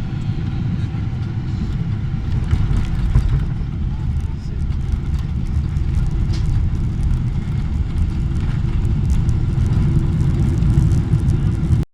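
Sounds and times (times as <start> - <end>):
airplane cabin low rumble: 0.0 - 11.8.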